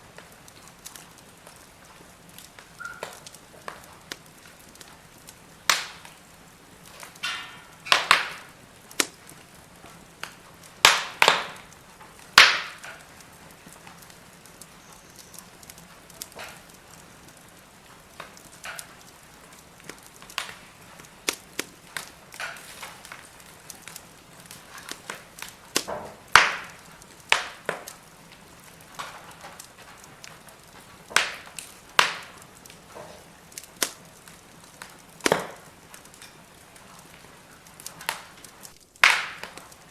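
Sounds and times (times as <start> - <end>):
faint steady hiss: 0.0 - 39.9
firewood crackling and popping: 0.0 - 39.9.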